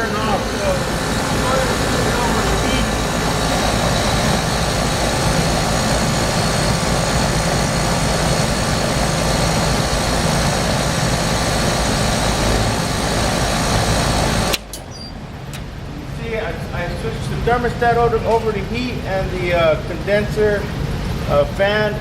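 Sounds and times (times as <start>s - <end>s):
air conditioner whooshing and humming: 0.0s - 22.0s.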